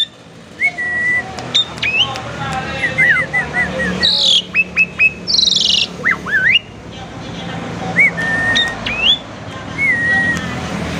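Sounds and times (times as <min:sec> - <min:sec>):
starling singing: 0:00.0 - 0:10.8.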